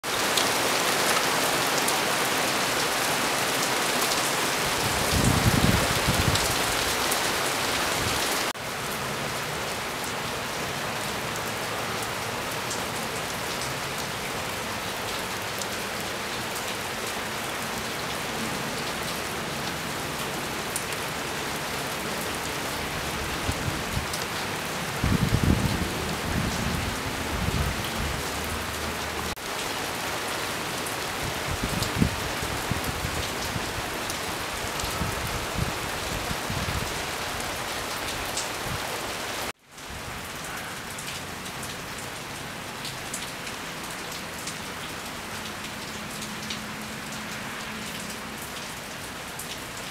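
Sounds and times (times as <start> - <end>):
heavy rain through trees: 0.0 - 49.9.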